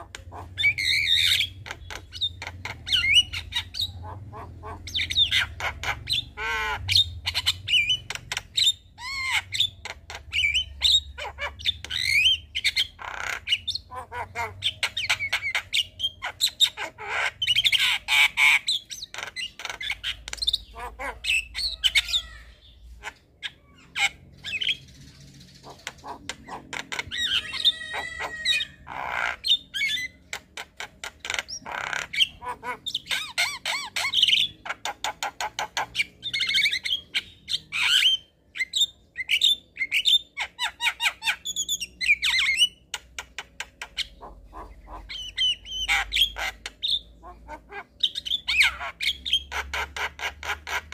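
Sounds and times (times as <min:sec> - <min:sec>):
myna bird singing: 0:00.0 - 0:50.9.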